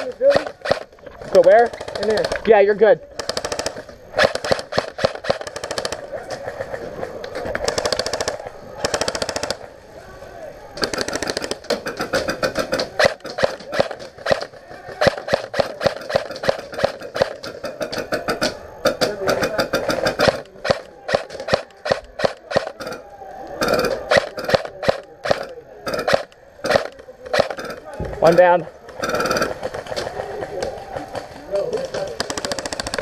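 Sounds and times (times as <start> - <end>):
airsoft guns firing bursts: 0.0 - 9.7, 10.8 - 33.0.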